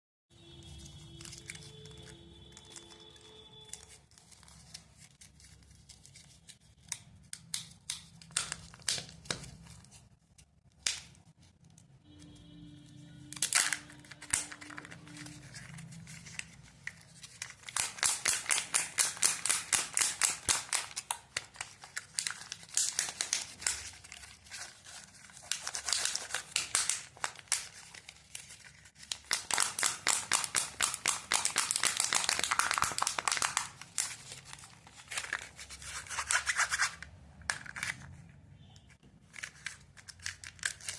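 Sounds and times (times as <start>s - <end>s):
plastic wrappers crinkling: 0.6s - 10.2s, 13.4s - 38.3s, 39.2s - 40.9s.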